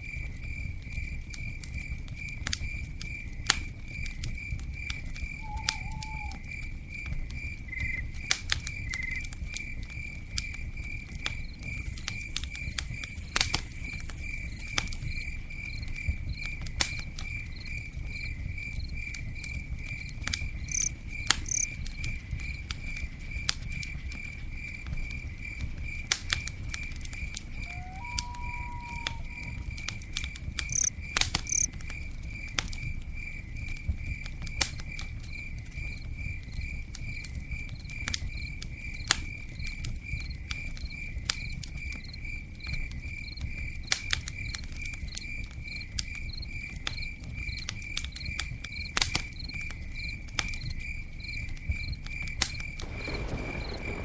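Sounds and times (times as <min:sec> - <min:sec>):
campfire crackling: 0:00.0 - 0:54.0
cricket chirping: 0:00.0 - 0:54.0.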